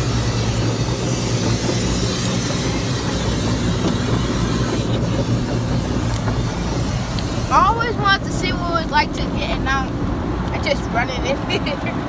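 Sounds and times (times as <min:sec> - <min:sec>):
car wash rushing noise: 0:00.0 - 0:12.0.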